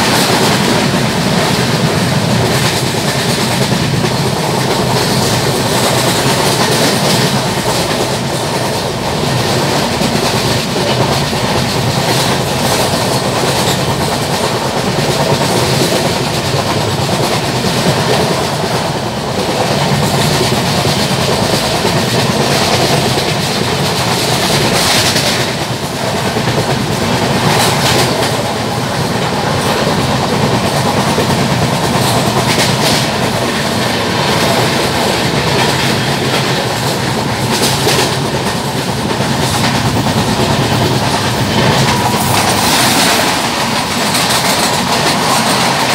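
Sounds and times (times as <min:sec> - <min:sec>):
clickety-clack over rail joints: 0:00.0 - 0:45.9
train wheels rumbling on rail: 0:00.0 - 0:45.9.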